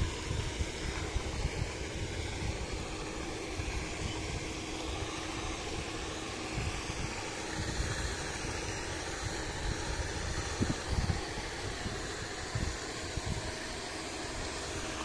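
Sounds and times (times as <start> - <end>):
pond aerator humming: 0.0 - 15.0.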